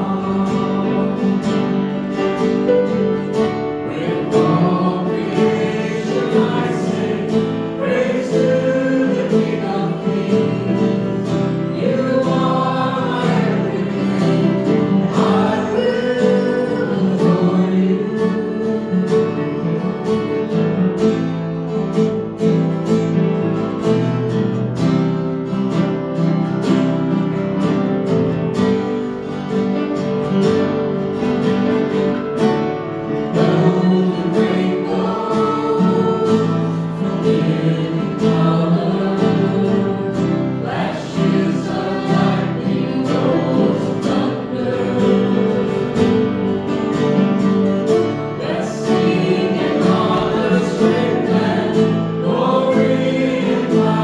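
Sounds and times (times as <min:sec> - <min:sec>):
group singing gospel music: 0:00.0 - 0:23.6, 0:24.3 - 0:54.0
guitar: 0:00.0 - 0:54.0.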